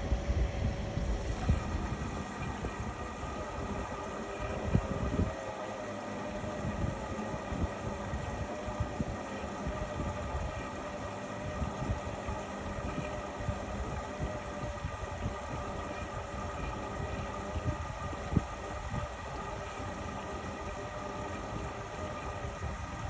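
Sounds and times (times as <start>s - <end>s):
washing machine motor whine: 0.0s - 23.0s.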